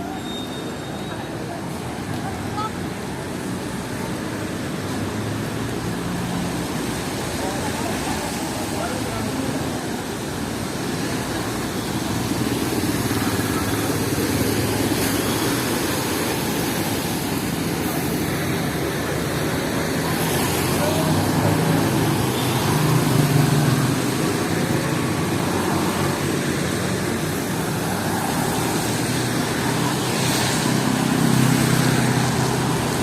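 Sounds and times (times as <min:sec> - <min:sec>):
street traffic passing: 0:00.0 - 0:33.0.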